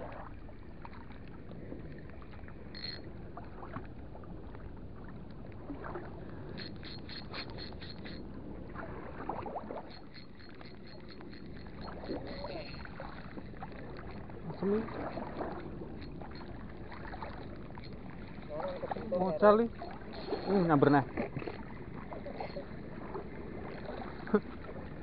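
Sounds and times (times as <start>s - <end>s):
water noise: 0.0s - 25.0s
wind: 0.0s - 25.0s.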